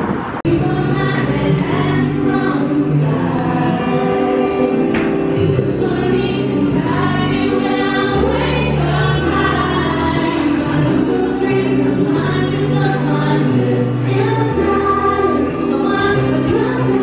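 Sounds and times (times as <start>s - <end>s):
amplified live accompaniment: 0.0s - 17.0s
woman singing into microphone: 0.5s - 17.0s.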